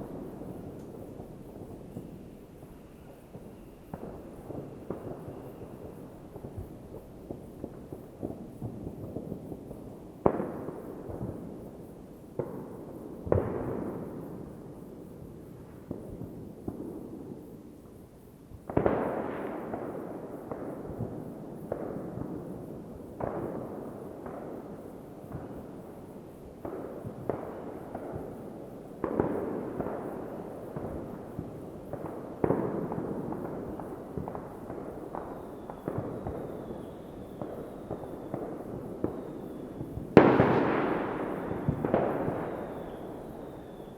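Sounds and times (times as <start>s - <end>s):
fireworks bangs with rolling echo: 0.0s - 43.9s.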